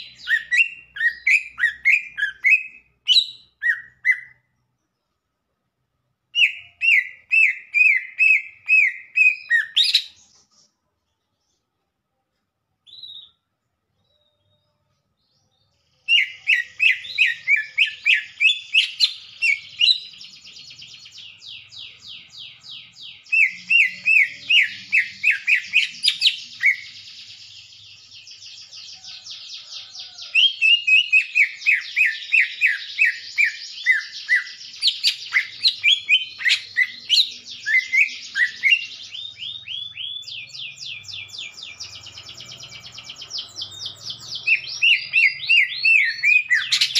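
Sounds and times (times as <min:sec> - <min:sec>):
bird singing whistled notes: 0:00.0 - 0:04.5, 0:06.4 - 0:10.5, 0:12.9 - 0:14.8, 0:16.0 - 0:46.9.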